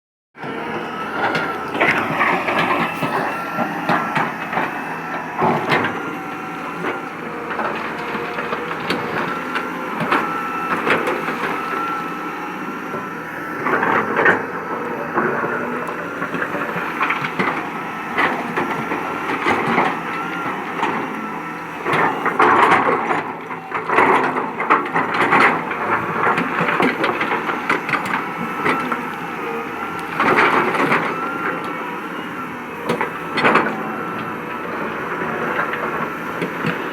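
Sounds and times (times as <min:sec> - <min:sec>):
excavator engine and hydraulics: 0:00.4 - 0:36.9.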